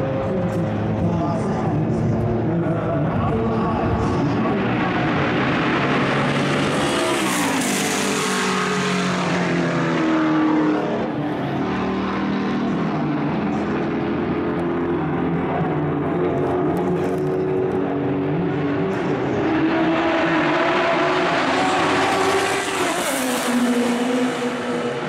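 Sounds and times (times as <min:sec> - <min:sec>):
racing car engine passing by: 0:03.8 - 0:25.0.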